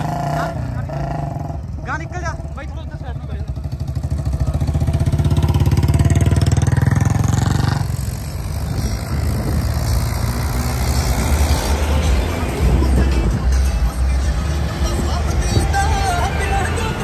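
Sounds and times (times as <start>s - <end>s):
car and tractor engines: 0.0s - 17.0s
road noise: 0.0s - 17.0s.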